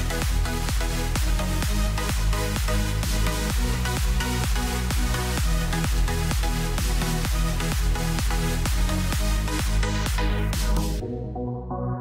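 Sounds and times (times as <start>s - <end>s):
kick drum: 0.0s - 11.0s
electronic dance music: 0.0s - 12.0s.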